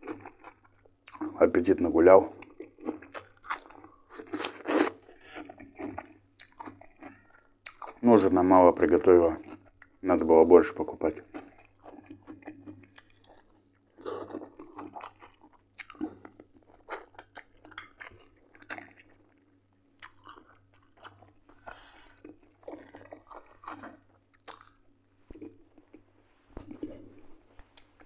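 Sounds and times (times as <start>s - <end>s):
man chewing chicken: 0.0s - 10.1s, 11.1s - 28.0s.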